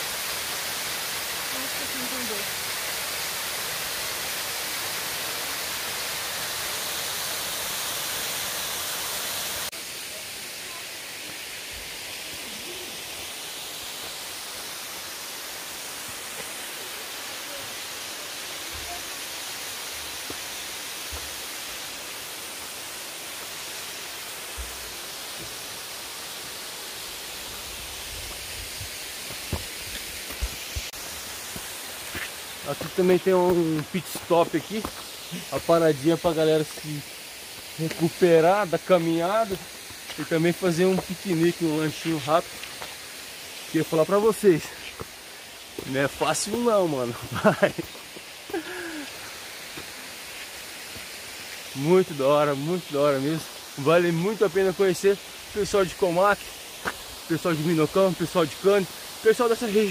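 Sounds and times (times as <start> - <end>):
soft hiss: 0.0 - 59.9
waterfall roaring: 0.0 - 59.9.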